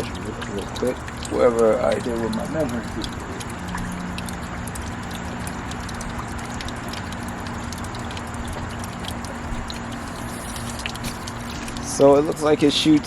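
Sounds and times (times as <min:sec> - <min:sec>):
water jet splashing into basin: 0:00.0 - 0:13.0.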